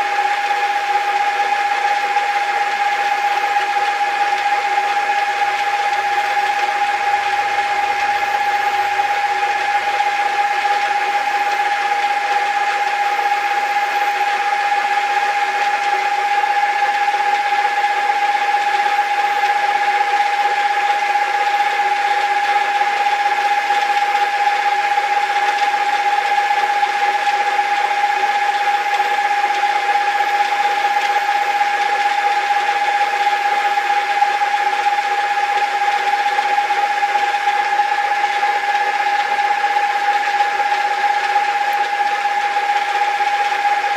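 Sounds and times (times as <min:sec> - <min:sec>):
metal lathe whine: 0:00.0 - 0:43.9.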